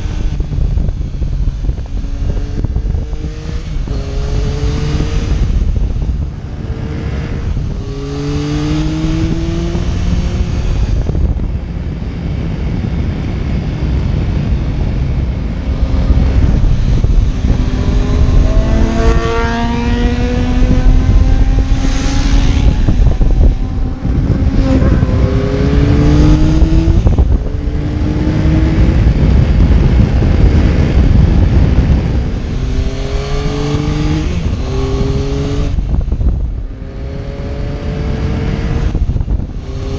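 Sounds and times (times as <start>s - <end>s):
motorcycle engine shifting gears: 0.0s - 11.7s, 14.8s - 39.9s
wind buffeting microphone: 0.0s - 39.9s.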